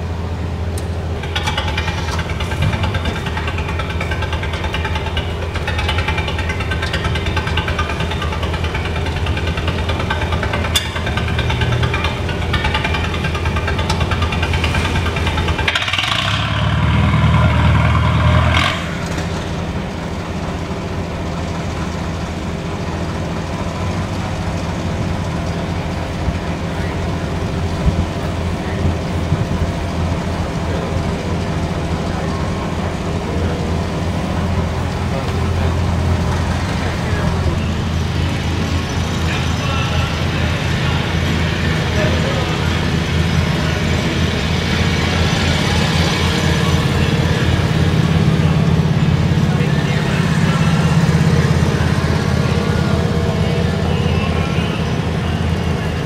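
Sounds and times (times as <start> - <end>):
loud engine: 0.0 - 56.0
tractor engines humming: 0.0 - 56.0.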